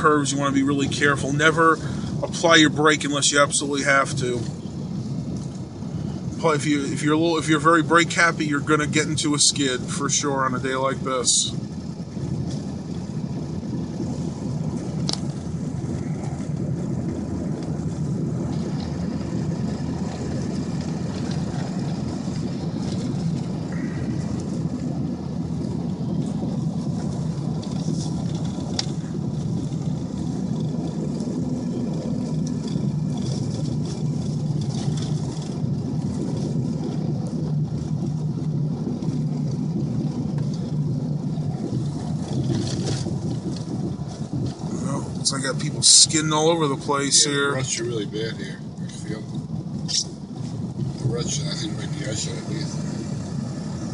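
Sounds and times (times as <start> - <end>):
pickup truck engine and tyre noise: 0.0 - 53.9.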